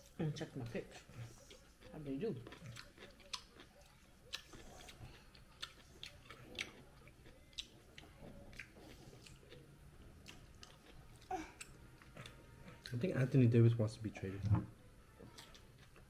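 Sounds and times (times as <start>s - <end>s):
faint chewing: 0.0s - 13.4s, 15.2s - 16.0s.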